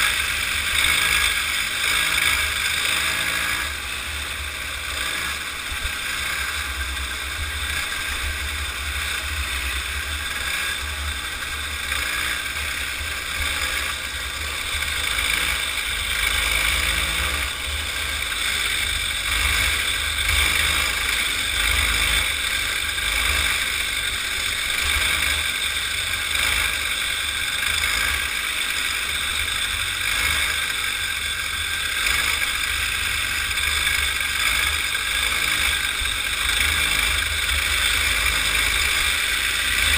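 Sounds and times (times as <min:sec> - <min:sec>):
small kart engine running: 0:00.0 - 0:39.9.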